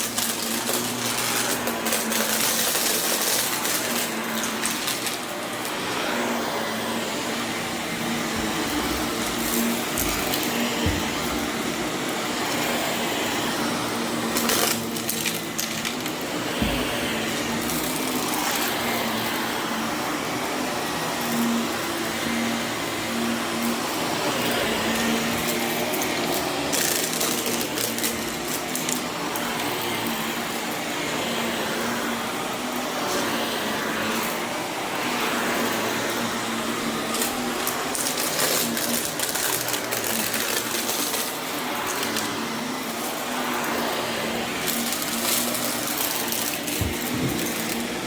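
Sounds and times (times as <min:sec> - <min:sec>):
vacuum cleaner running on carpet: 0:00.0 - 0:48.0.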